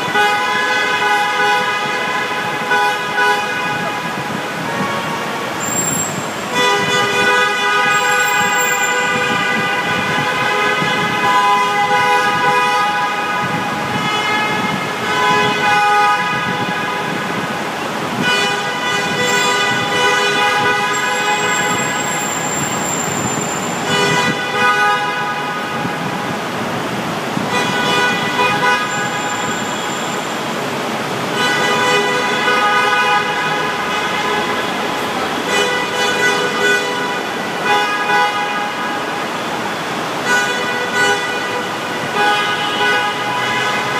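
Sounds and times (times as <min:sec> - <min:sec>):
car horns honking: 0:00.0 - 0:43.9
slow traffic noise: 0:00.0 - 0:43.9.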